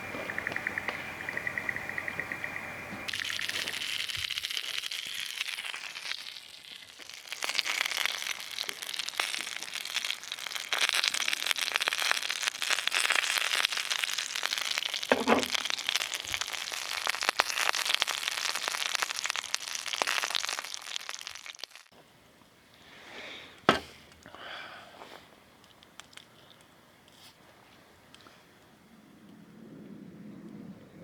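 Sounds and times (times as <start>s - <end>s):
wood fire crackling: 0.0s - 28.7s.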